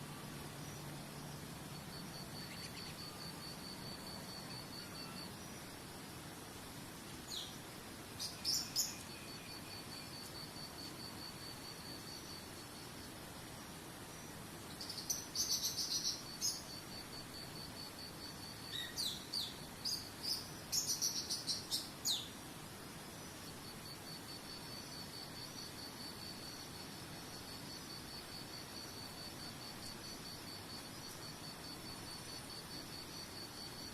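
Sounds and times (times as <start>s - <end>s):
insect trill: 0.0s - 33.9s.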